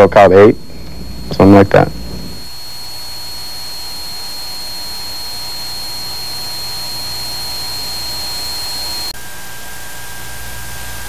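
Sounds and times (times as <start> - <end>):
low hum: 0.0 - 9.1
steady tape hiss: 0.0 - 9.1
thin high-pitched whine: 0.0 - 11.0.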